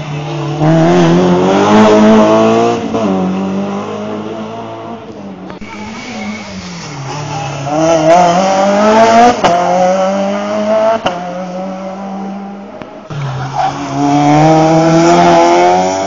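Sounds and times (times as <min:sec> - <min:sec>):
rally car engine revving: 0:00.0 - 0:16.0
second rally car engine: 0:00.0 - 0:16.0.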